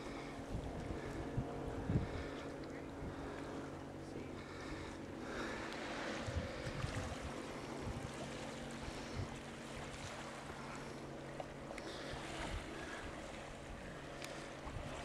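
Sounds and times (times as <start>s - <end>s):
water sloshing around kayak: 0.0s - 15.0s.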